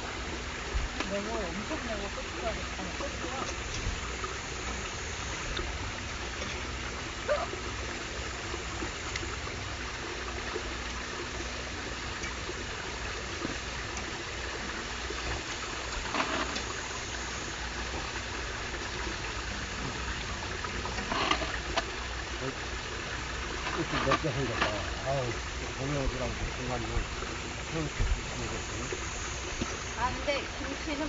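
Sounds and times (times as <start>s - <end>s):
stream running over rocks: 0.0s - 31.0s.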